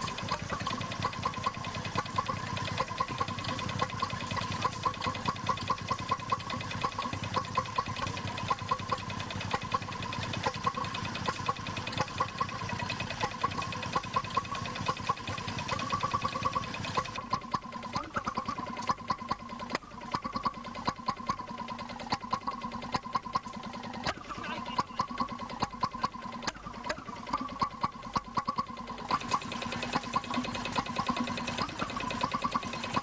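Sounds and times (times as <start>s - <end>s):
stationary engine running: 0.0s - 33.0s.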